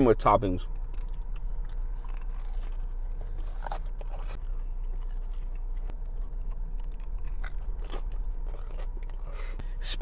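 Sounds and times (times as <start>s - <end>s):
chewing and crunching: 0.6s - 10.0s.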